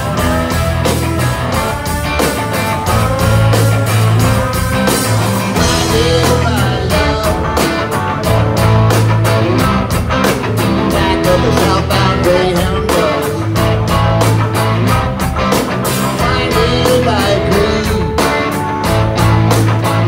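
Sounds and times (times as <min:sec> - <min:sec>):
bass guitar: 0:00.0 - 0:20.0
drums with steady beat: 0:00.0 - 0:20.0
electric guitars: 0:00.0 - 0:20.0.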